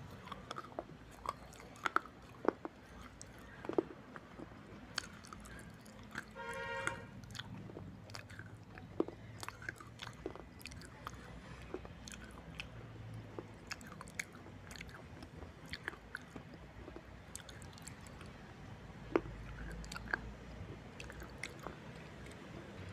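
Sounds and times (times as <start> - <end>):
sharp crunches and clicks: 0.0 - 18.4, 19.0 - 22.9
biting and chewing clay pieces: 0.0 - 22.9.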